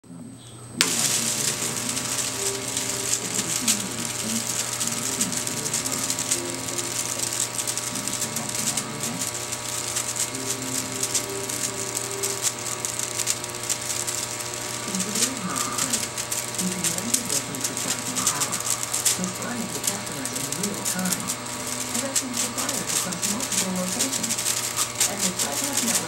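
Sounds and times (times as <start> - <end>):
air pump humming: 0.7 - 26.0
fast dense crackle: 0.8 - 26.0.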